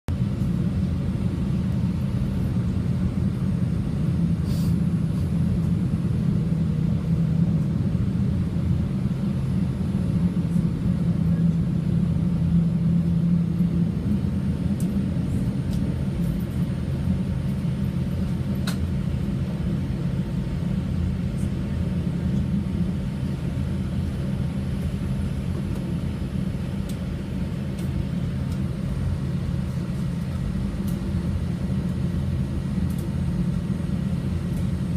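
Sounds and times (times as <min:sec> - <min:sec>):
airliner low rumble: 0:00.1 - 0:34.9.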